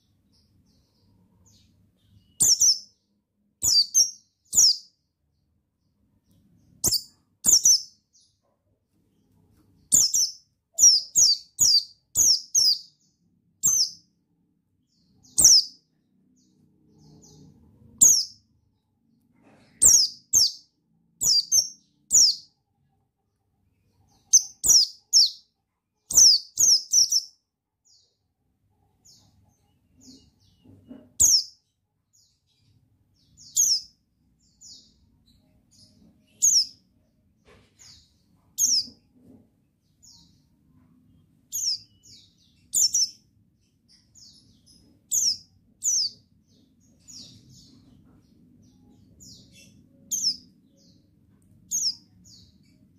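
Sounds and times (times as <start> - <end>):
bird high chirps: 0.0 - 5.0, 6.3 - 8.6, 9.8 - 14.1, 14.9 - 18.5, 19.5 - 22.6, 23.8 - 28.1, 29.0 - 36.9, 37.8 - 39.0, 41.1 - 52.9.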